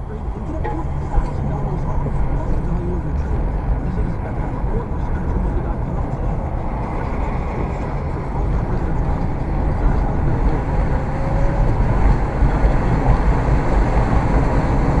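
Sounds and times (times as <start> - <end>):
road vehicles rumbling: 0.0 - 15.0.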